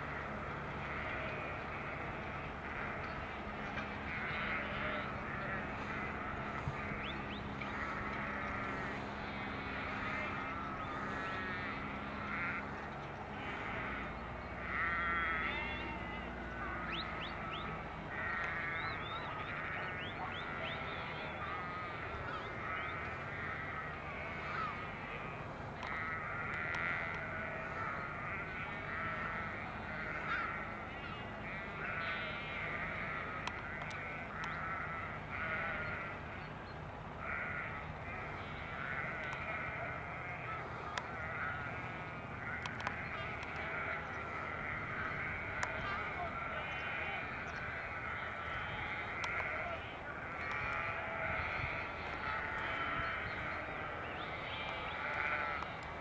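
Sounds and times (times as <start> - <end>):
sheep bleating: 0.0 - 36.4, 37.2 - 56.0
farm vehicle engines humming: 0.0 - 56.0.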